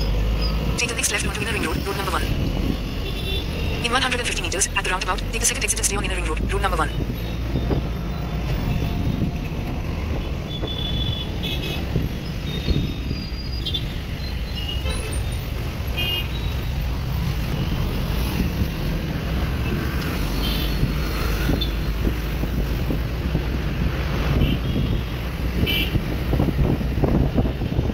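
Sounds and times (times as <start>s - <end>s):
engine and road rumble: 0.0s - 27.9s.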